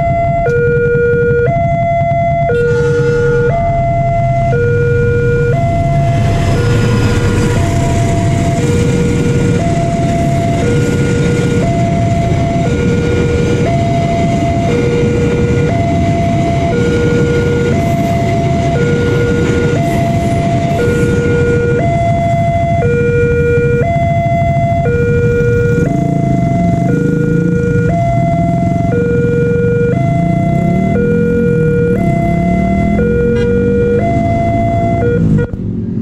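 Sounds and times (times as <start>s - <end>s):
level crossing two-tone alarm: 0.0s - 35.6s
freight train rumbling: 2.6s - 36.0s.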